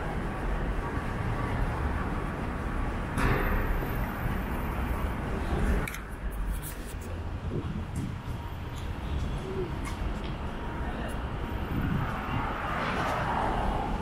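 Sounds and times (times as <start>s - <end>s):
traffic rumble of passing cars: 0.0s - 14.0s.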